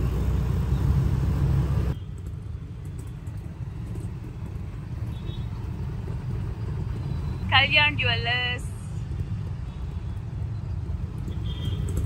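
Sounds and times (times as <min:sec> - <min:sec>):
hum of traffic: 0:00.0 - 0:12.0
road noise: 0:00.0 - 0:12.0
wind rumble: 0:00.0 - 0:12.0.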